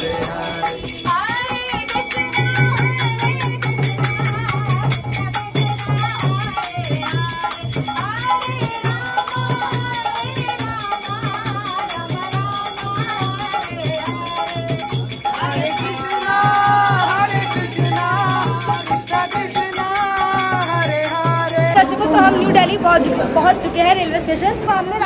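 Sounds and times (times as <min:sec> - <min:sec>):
pulsing beat: 0:00.0 - 0:21.8
rattling percussion: 0:00.0 - 0:22.0
devotional singing: 0:00.0 - 0:22.9.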